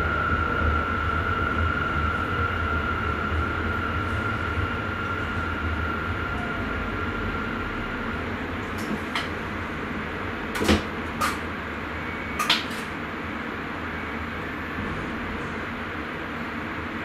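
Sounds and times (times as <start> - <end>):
train cab running noise: 0.0 - 17.0.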